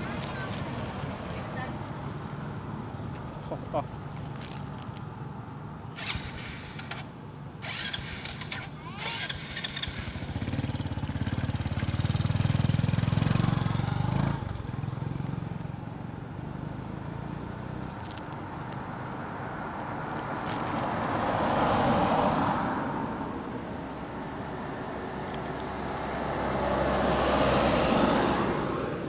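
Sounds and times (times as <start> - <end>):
vehicle passing: 0.0 - 3.8, 6.0 - 15.6, 16.4 - 29.0
vehicle engine humming: 0.0 - 29.0.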